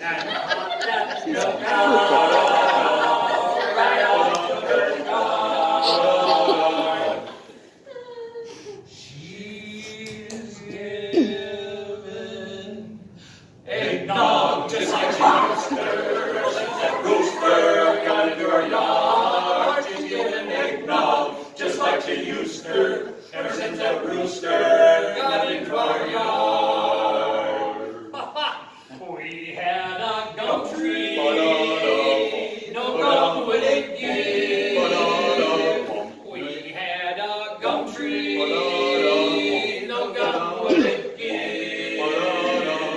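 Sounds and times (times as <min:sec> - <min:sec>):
male vocal quartet harmony: 0:00.0 - 0:08.0, 0:08.8 - 0:42.9.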